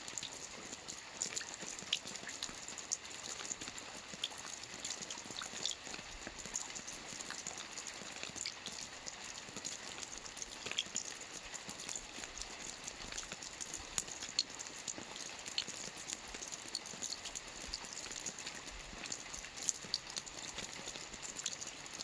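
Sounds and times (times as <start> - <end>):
soft rain on a roof: 0.0 - 22.0.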